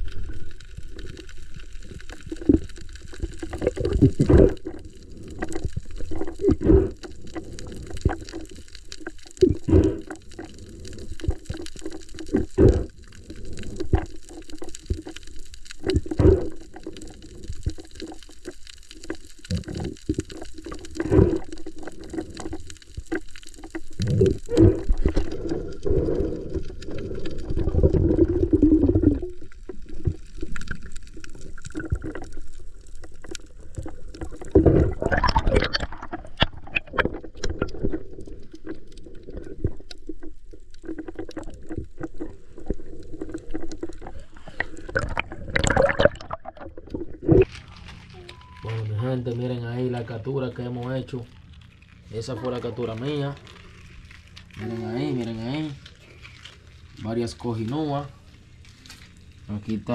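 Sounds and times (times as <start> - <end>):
water sloshing and gurgling: 0.0 - 48.7, 51.2 - 54.9.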